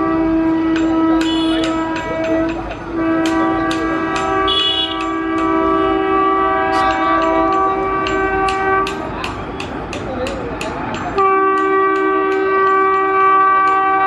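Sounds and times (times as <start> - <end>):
train horn blast: 0.0 - 9.1, 11.2 - 14.0.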